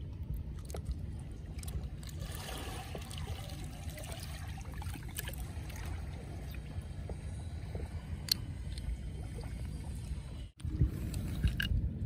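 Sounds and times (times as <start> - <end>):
seawater lapping among rocks: 0.0 - 12.0.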